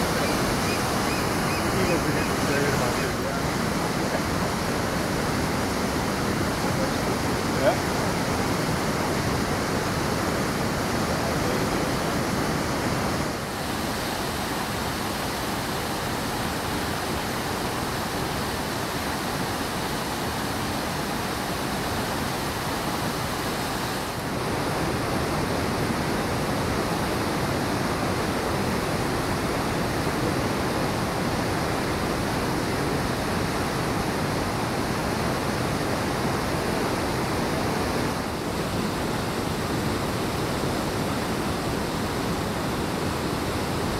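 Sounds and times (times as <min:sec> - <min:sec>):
creek rapids rushing: 0:00.0 - 0:43.9.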